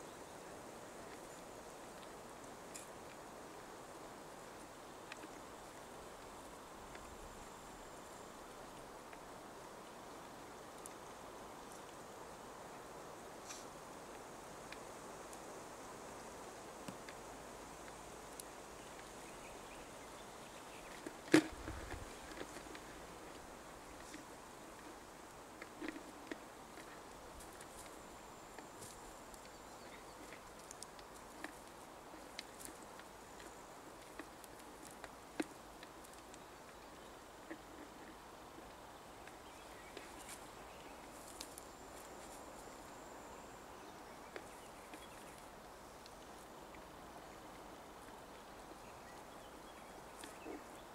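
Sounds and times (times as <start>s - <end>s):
faint outdoor background: 0.0s - 50.9s.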